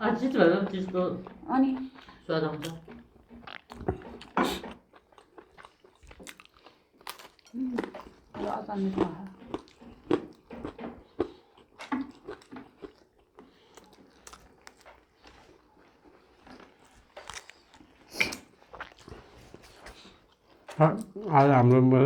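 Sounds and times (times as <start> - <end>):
person chewing food: 0.1 - 21.6.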